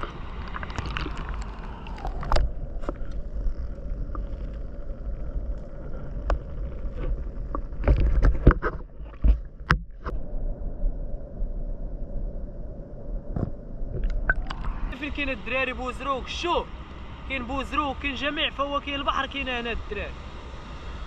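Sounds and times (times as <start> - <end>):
wind on microphone: 0.0 - 18.2
sea rumble: 0.0 - 21.0.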